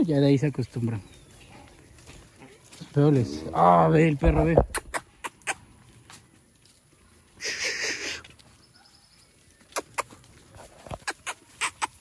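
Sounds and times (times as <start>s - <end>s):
hooves clicking on dirt: 0.0s - 12.0s.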